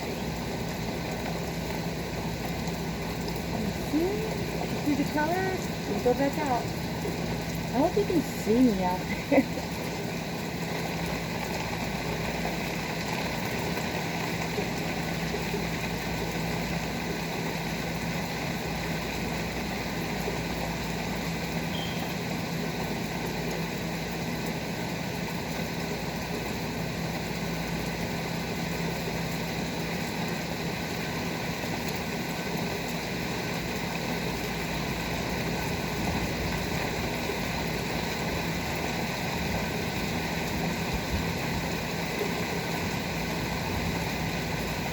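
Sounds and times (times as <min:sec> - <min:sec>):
low machine hum: 0:00.0 - 0:44.9
rain falling: 0:00.0 - 0:44.9.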